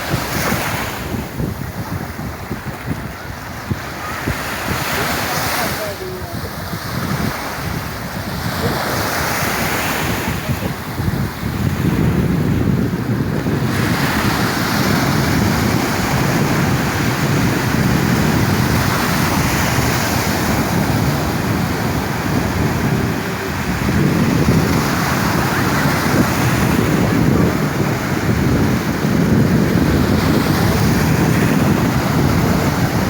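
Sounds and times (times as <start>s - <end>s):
sea waves washing onto shore: 0.0s - 33.0s
wind buffeting microphone: 0.0s - 33.0s.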